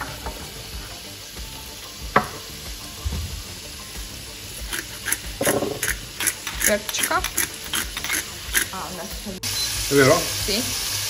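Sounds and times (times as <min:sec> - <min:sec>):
pans sizzling: 0:00.0 - 0:11.0
pot boiling and bubbling: 0:00.0 - 0:11.0.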